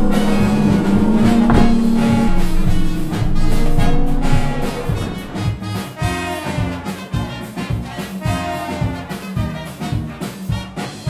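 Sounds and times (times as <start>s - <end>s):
brass music over a steady beat: 0.0s - 11.0s.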